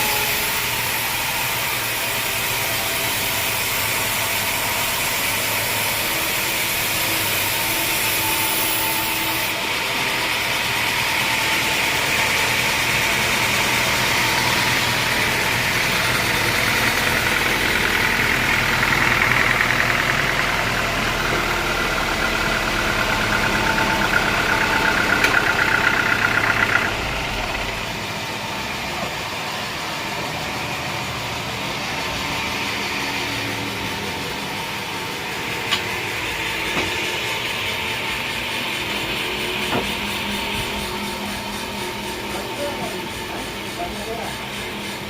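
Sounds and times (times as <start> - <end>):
high-pitched whine: 0.0 - 45.0
sawmill engine running: 0.0 - 45.0.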